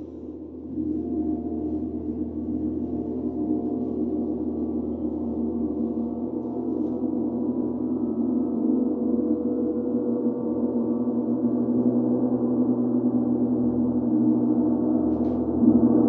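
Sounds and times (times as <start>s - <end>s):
gong ringing: 0.0s - 16.0s.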